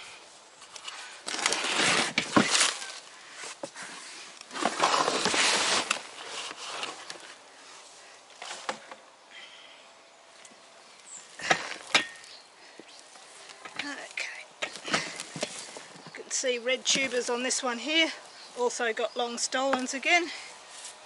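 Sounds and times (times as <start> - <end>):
soil scraping and rustling: 0.0 - 9.0, 11.1 - 21.0.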